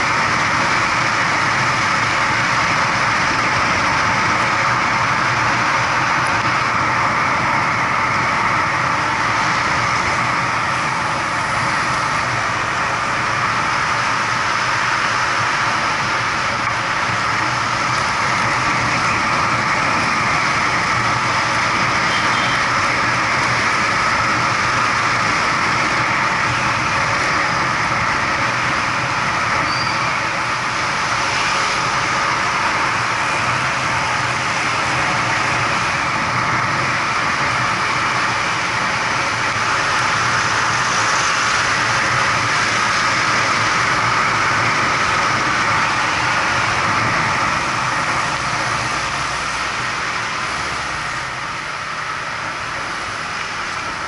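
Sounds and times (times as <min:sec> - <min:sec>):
vehicle engine drone: 0:00.0 - 0:54.0
wind and tyre noise: 0:00.0 - 0:54.0.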